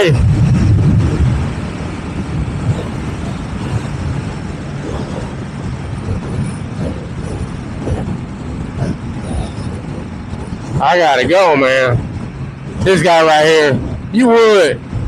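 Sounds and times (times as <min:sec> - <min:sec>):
road noise: 0:00.0 - 0:15.0
motorcycle engine running: 0:00.1 - 0:14.1.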